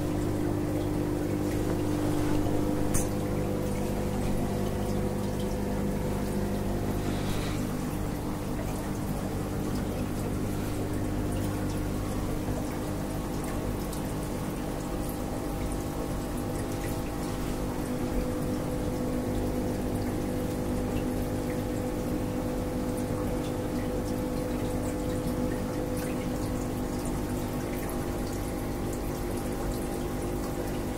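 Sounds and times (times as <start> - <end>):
aquarium pump humming: 0.0 - 30.9
water trickling and splashing: 0.0 - 30.9
faint drips and ticks: 2.9 - 30.9.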